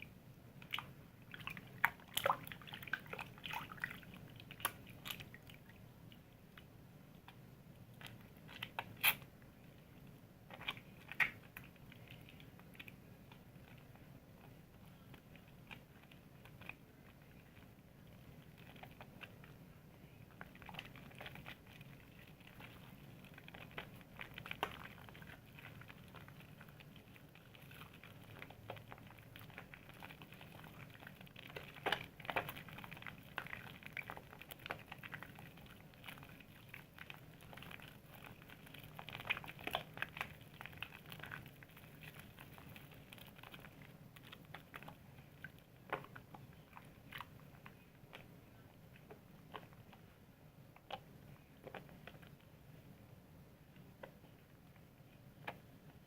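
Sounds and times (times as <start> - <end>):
soap lather crackling and squishing: 0.0 - 52.8.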